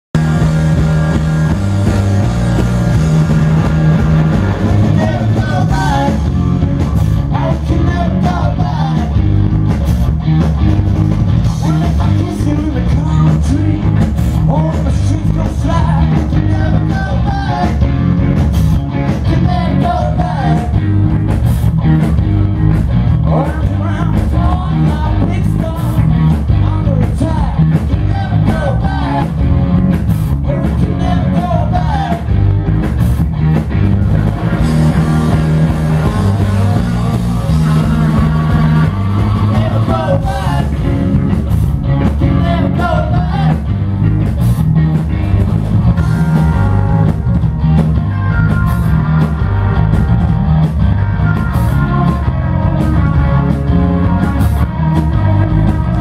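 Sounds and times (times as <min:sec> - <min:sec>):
bass guitar: 0:00.0 - 0:56.0
drums: 0:00.0 - 0:56.0
electric guitars: 0:00.2 - 0:56.0.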